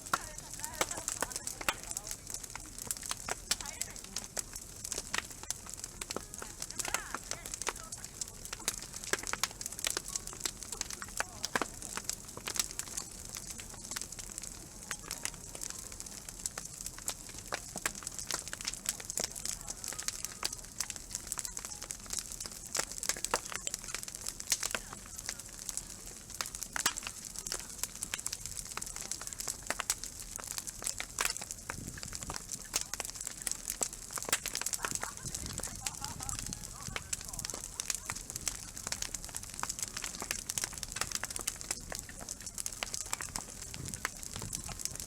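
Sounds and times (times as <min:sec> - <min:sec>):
campfire crackling and popping: 0:00.0 - 0:45.0.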